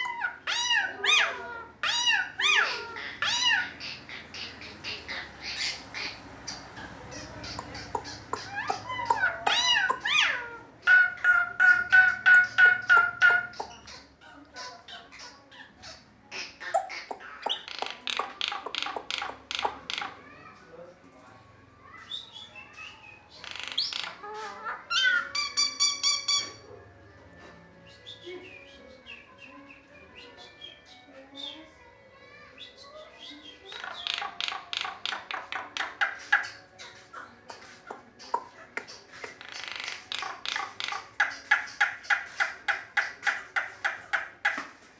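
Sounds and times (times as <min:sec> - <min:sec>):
starling calling: 0:00.0 - 0:20.5, 0:21.7 - 0:26.7, 0:27.8 - 0:31.8, 0:32.5 - 0:44.9.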